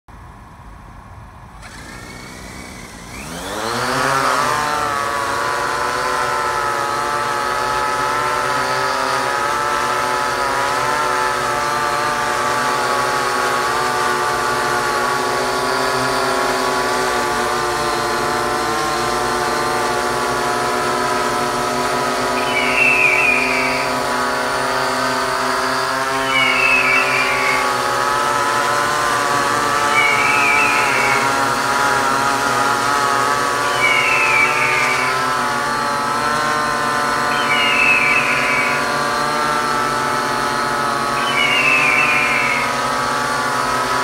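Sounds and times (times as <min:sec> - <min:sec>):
drone propellers whirring: 0:00.2 - 0:44.0.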